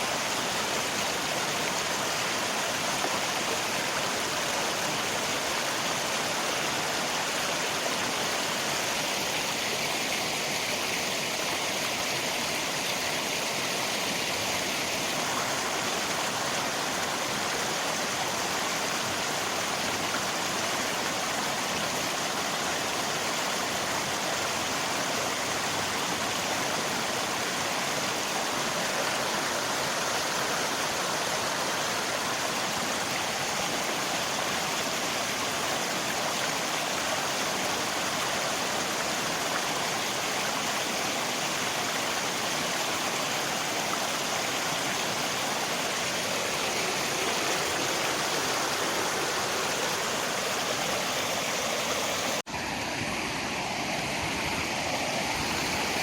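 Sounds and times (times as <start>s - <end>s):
rain: 0.0s - 56.0s
river water rushing: 0.0s - 56.0s.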